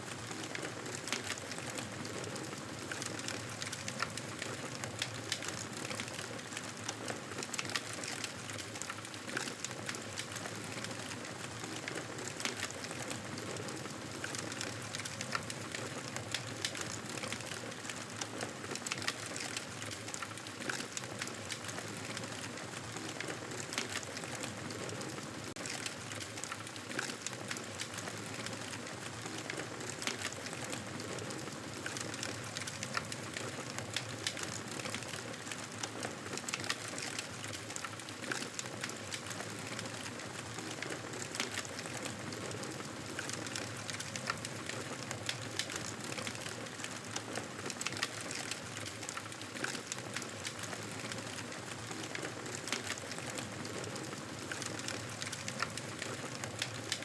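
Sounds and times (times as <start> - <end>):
campfire crackling and popping: 0.3 - 24.6, 25.5 - 57.0.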